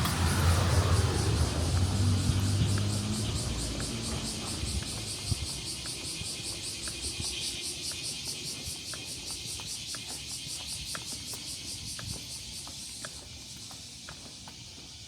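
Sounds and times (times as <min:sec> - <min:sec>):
insects trilling: 0:00.1 - 0:15.0.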